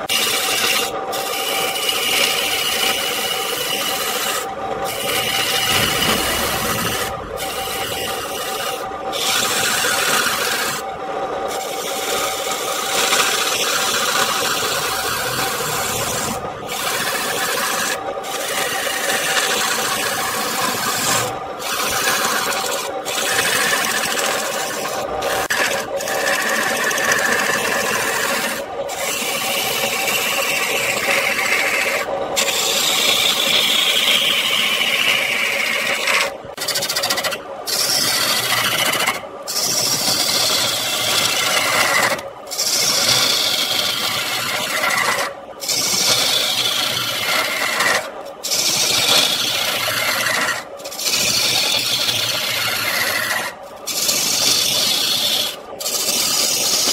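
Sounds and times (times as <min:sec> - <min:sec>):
lathe humming: 0:00.0 - 0:56.9
tool scraping spinning wood: 0:00.0 - 0:56.9.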